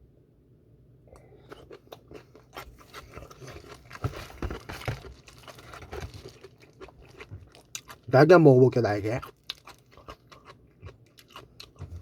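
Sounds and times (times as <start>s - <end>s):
crunching fried chicken: 1.2s - 12.0s.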